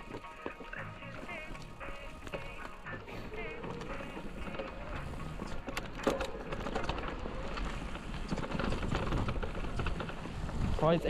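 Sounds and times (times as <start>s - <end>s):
bike knocking and rattling: 0.0s - 11.0s
bike tyres on dirt trail: 0.0s - 11.0s.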